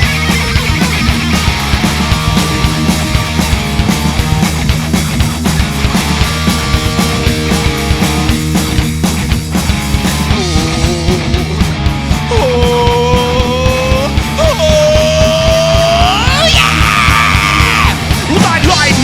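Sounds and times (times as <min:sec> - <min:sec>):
live rock band playing: 0:00.0 - 0:19.0
wailing bending lead guitar notes: 0:00.0 - 0:19.0.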